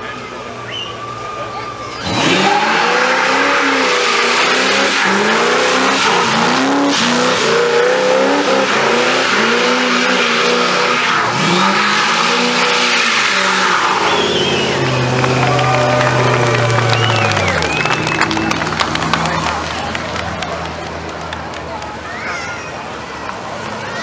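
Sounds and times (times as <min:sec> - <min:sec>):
tires squealing on asphalt: 0:00.0 - 0:24.0
car engine revving: 0:00.3 - 0:21.8.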